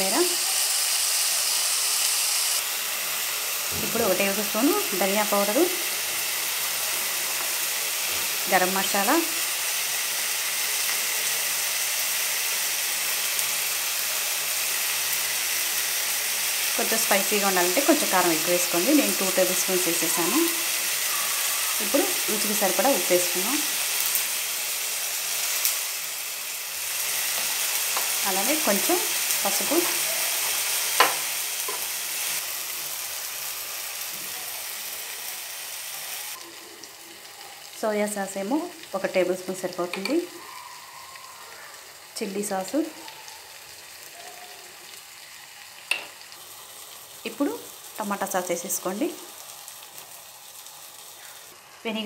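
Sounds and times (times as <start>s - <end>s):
vegetables sizzling in oil: 0.0s - 52.0s.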